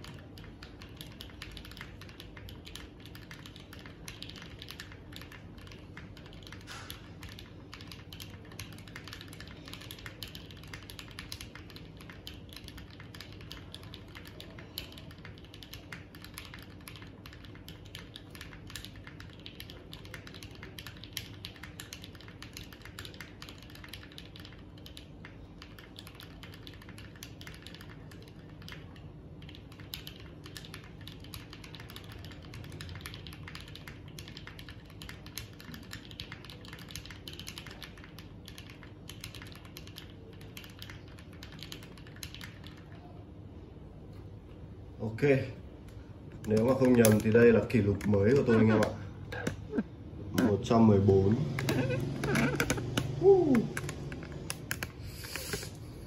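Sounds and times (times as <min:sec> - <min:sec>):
fast mechanical keyboard typing: 0:00.0 - 0:43.2, 0:46.3 - 0:49.8, 0:50.4 - 0:55.7.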